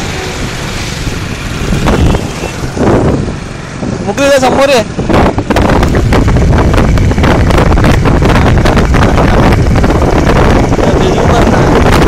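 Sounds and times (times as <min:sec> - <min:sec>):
road and vehicle noise: 0:00.0 - 0:12.0
wind rush on microphone: 0:00.0 - 0:12.0.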